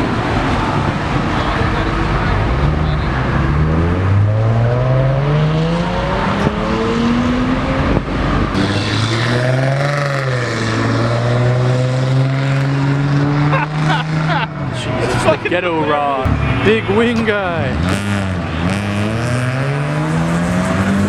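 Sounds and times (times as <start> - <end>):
car engine accelerating: 0.0 - 16.6, 17.6 - 21.0.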